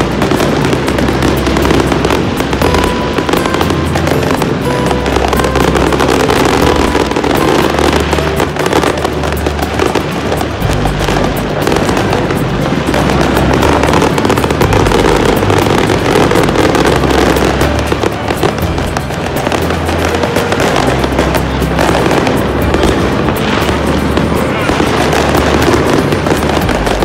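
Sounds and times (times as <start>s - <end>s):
fireworks cracking and banging: 0.0s - 27.0s
loud music with heavy bass: 0.0s - 27.0s.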